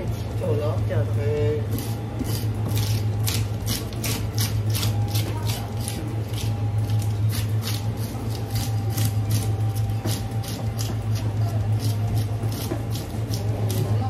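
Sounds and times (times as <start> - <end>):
steady low hum: 0.0 - 14.0
knife scraping fish scales: 1.7 - 14.0.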